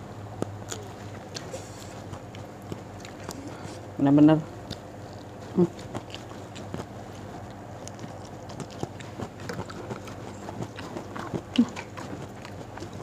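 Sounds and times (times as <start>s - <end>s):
chewing and lip smacks: 0.3s - 3.9s, 4.5s - 13.0s.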